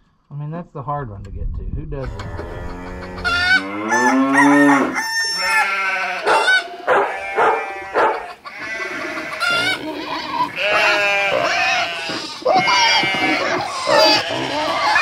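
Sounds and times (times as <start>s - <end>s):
farm animals calling: 2.0s - 15.0s.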